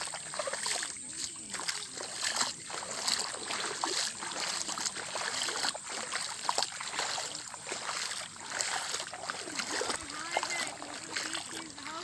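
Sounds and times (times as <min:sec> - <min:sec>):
footsteps wading through water: 0:00.0 - 0:12.0.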